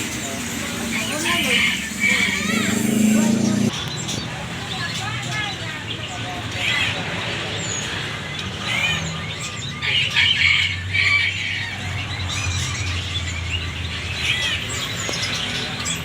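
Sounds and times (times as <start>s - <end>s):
bird chicks chirping: 0.0s - 16.0s.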